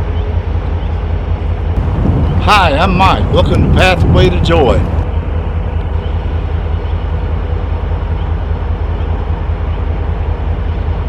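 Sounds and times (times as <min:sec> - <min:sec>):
freight train rolling by: 0:00.0 - 0:11.0.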